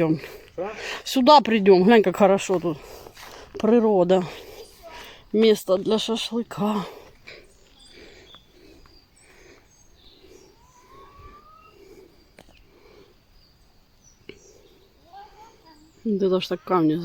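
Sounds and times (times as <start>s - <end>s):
wild birds calling and chirping: 0.0s - 17.0s.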